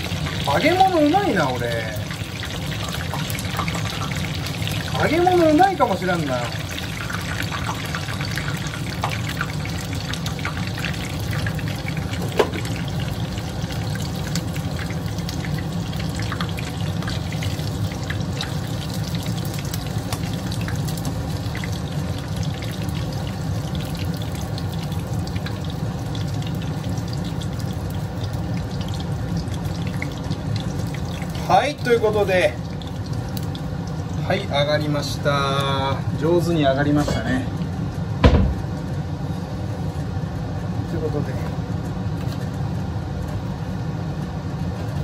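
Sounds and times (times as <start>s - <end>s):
deep-frying sizzle and pops: 0.0s - 39.2s, 39.8s - 45.0s.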